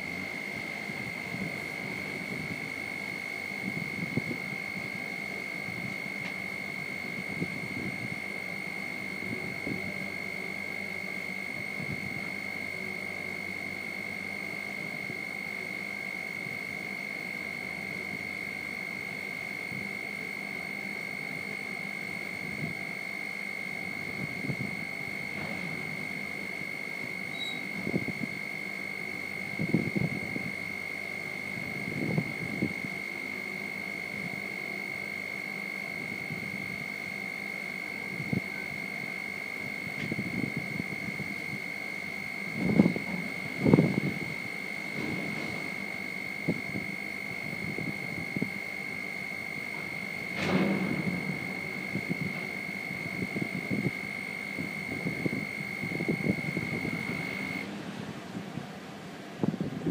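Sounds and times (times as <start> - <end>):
high-pitched alarm buzzer: 0.0 - 57.7.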